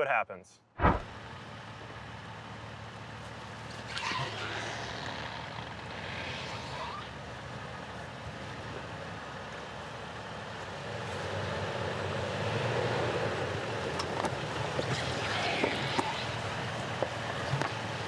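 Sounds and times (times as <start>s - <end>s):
engine under light throttle: 1.0s - 18.0s.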